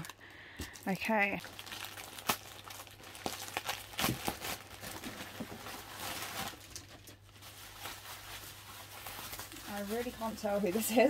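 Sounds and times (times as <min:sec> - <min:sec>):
bubble wrap and plastic crinkling: 0:00.0 - 0:11.0.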